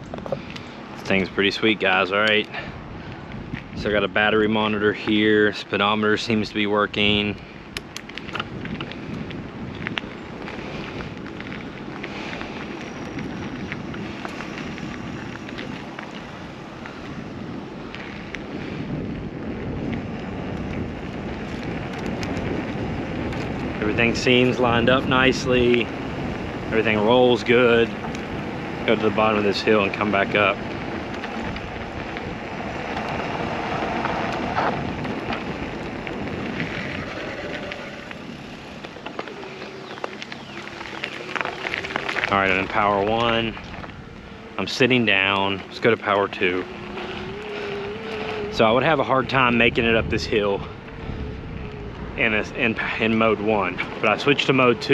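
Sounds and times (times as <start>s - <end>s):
tyres rolling over ground: 0.0s - 54.9s
wind rushing over microphone: 0.0s - 54.9s.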